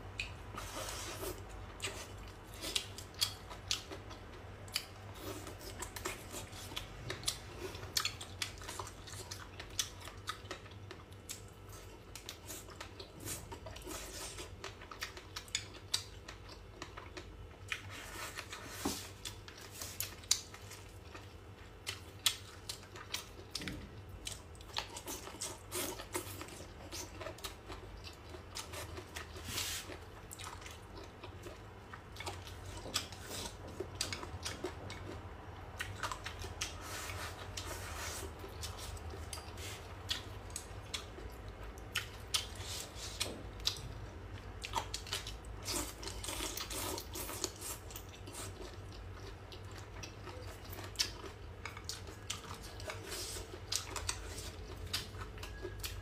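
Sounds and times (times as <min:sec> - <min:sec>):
chewing and biting: 0:00.2 - 0:56.0.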